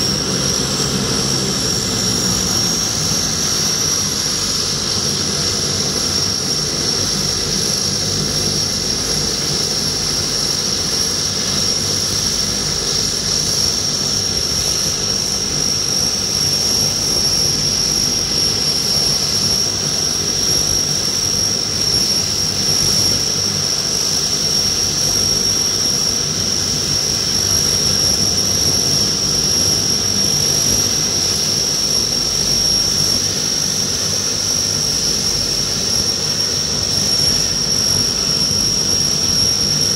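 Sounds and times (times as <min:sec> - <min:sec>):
propeller drone: 0:00.0 - 0:39.9
turbine whine: 0:00.0 - 0:39.9.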